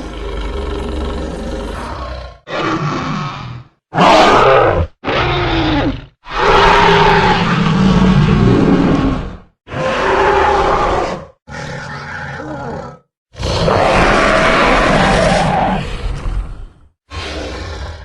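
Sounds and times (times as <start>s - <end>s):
deep growling dinosaur roars: 0.0s - 18.0s.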